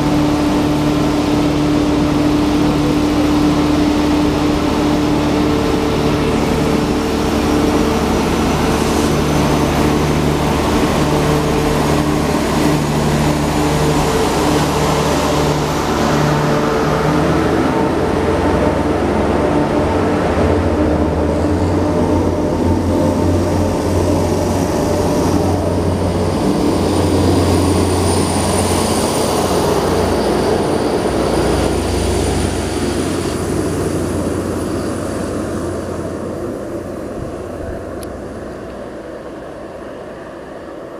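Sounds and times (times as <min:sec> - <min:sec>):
diesel train engines humming: 0:00.0 - 0:40.9.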